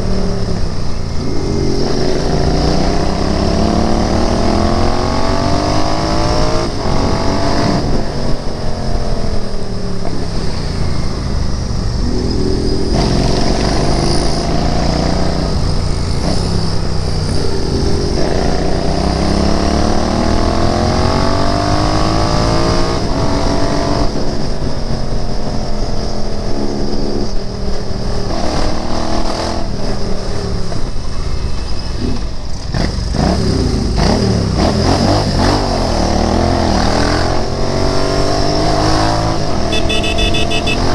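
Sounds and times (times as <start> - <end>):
motorcycle engine revving: 0.0 - 25.4, 27.0 - 40.9.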